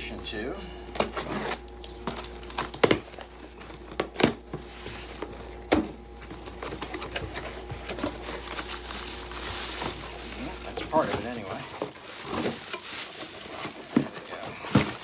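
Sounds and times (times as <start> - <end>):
packaging rustling and crinkling: 0.9 - 15.0.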